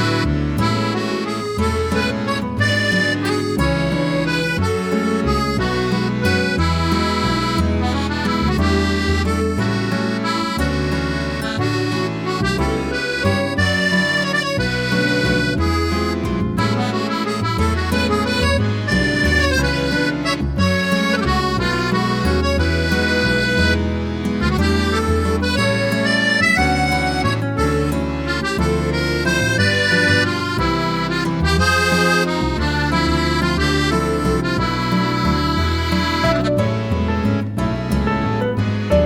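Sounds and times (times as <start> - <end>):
accordion music with bass: 0.0 - 39.0.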